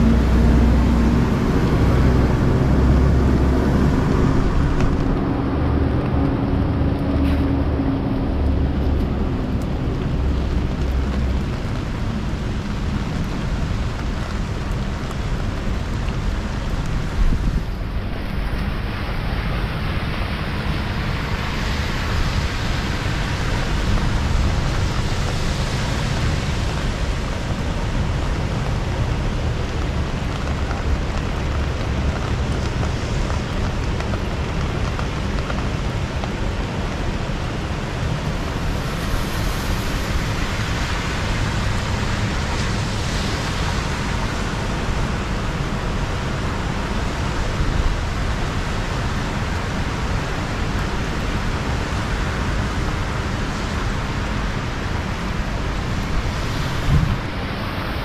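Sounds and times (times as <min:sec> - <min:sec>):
heavy rain pouring: 0:00.0 - 0:58.0
wind rumbling on microphone: 0:00.0 - 0:58.0.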